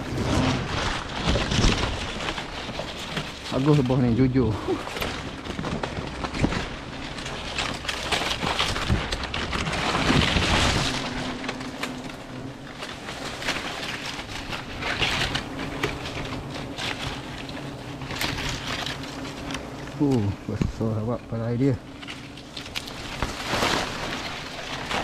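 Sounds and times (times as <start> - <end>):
leaves and twigs rustling: 0.0 - 25.0.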